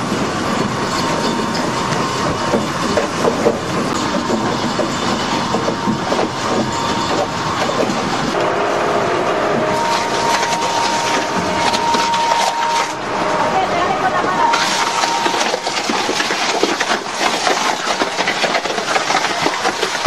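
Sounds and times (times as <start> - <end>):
high machine whine: 0.0 - 17.2
crusher machine grinding: 0.0 - 20.0.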